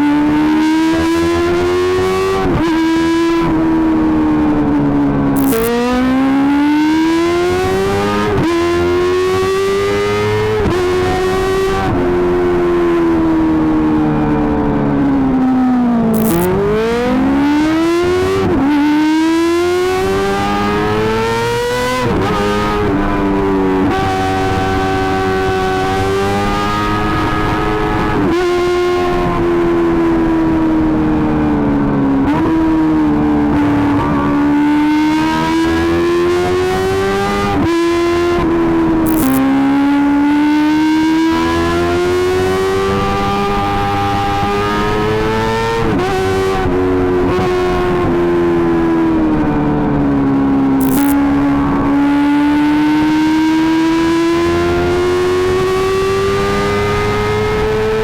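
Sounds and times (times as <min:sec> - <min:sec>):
motorcycle engine high-revving: 0:00.0 - 0:58.0.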